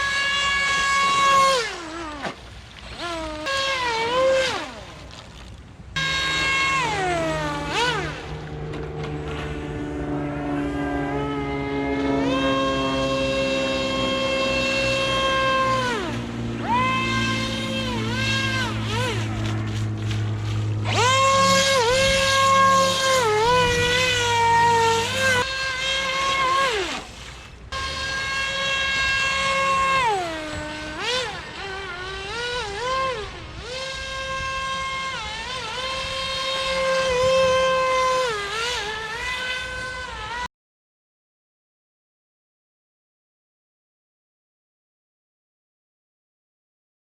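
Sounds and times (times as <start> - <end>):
model airboat motor whining: 0.0 - 5.2, 5.8 - 40.5.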